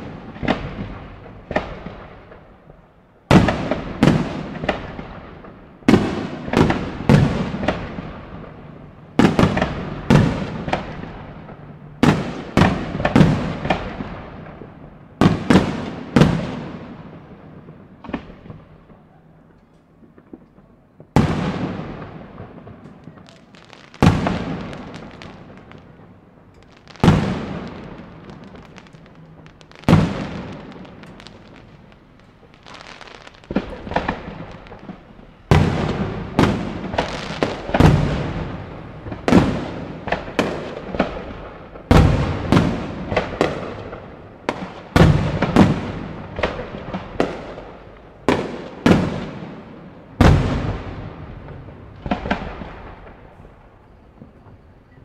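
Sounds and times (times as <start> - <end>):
fireworks bangs echoing: 0.0 - 55.0
fireworks crackling: 0.0 - 55.0.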